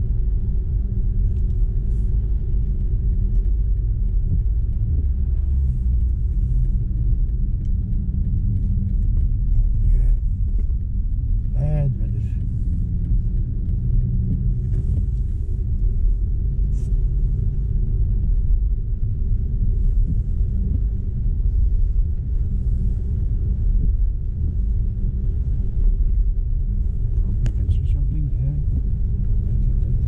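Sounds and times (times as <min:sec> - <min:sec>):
road and tyre rumble: 0:00.0 - 0:30.0
faint ticks: 0:01.1 - 0:27.7.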